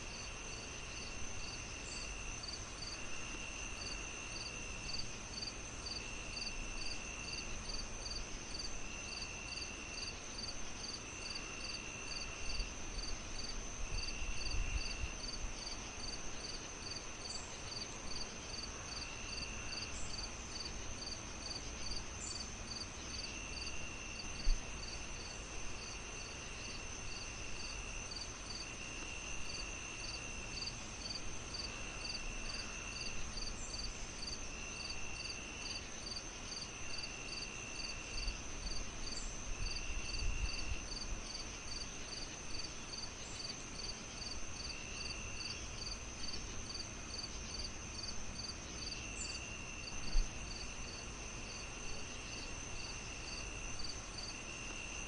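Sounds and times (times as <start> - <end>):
crickets chirping: 0.0 - 55.0
high insect trill: 0.1 - 55.0.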